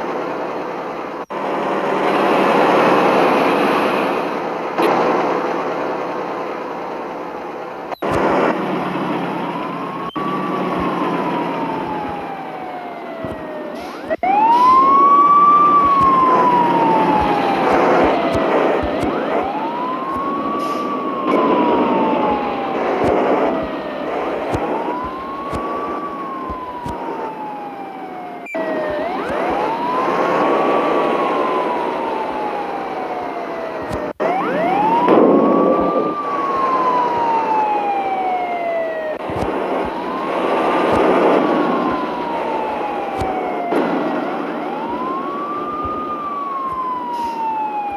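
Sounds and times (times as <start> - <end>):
siren wailing: 0.0 - 47.9
vehicle noise: 0.0 - 47.9.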